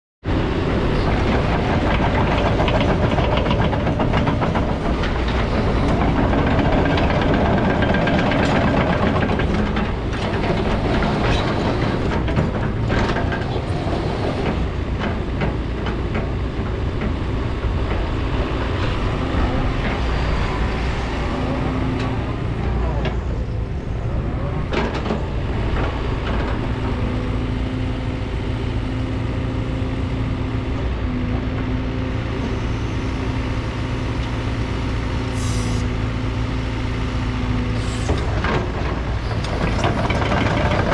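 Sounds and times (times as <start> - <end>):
excavator diesel engine: 0.3 - 40.9.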